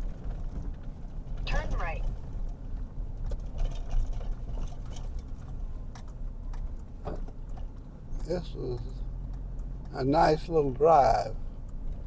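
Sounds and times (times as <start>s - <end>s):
light clicks and rattles: 0.0s - 10.8s
engine and road rumble: 0.0s - 12.0s.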